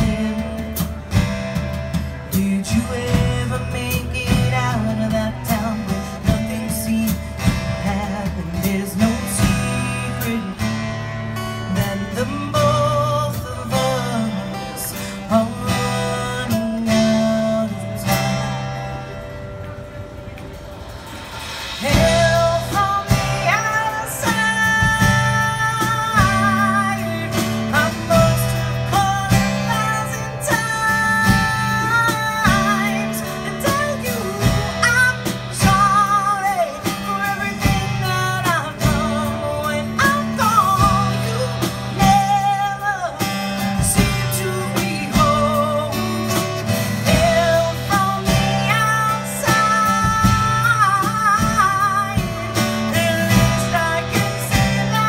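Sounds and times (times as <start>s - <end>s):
drum kit: 0.0s - 55.0s
strummed acoustic guitar: 0.0s - 55.0s.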